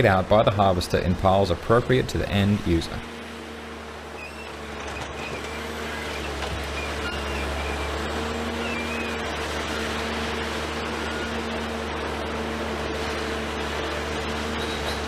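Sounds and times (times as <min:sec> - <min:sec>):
constant whine: 0:00.0 - 0:15.0
diesel engine running: 0:00.0 - 0:15.0.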